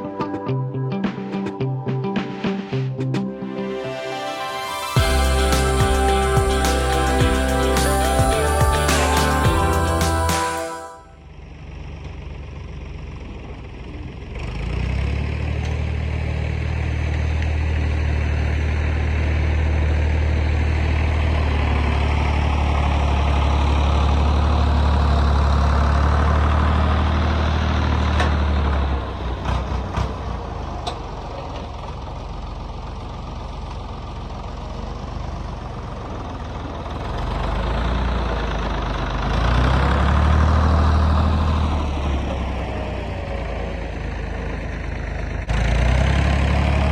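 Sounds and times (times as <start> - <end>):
diesel engine running: 5.0 - 46.9.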